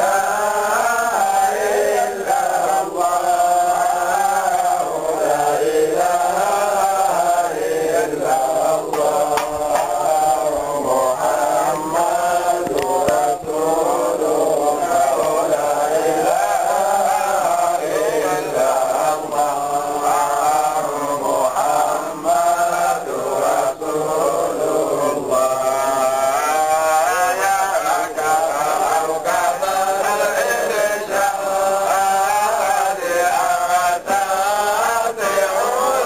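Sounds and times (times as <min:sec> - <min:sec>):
men chanting together: 0:00.0 - 0:36.0.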